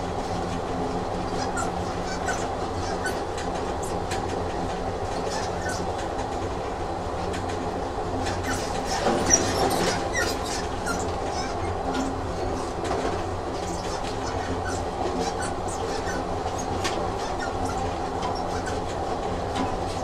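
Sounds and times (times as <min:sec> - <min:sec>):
train rolling on track: 0:00.0 - 0:20.0.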